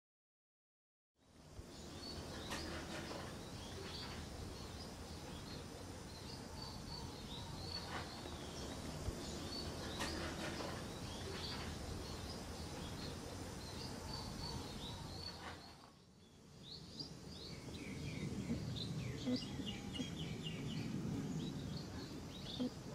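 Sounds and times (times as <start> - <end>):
small birds chirping: 1.2 - 22.9
steady hiss: 1.2 - 22.9.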